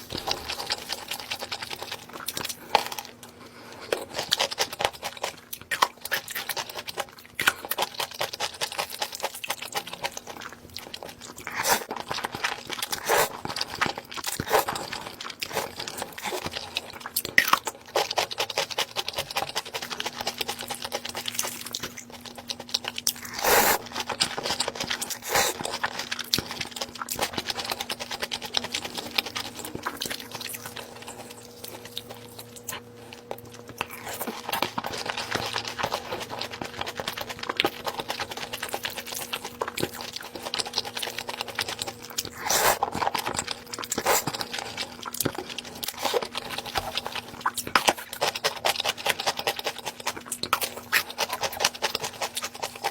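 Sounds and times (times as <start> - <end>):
person chewing and crunching food: 0.0 - 52.9.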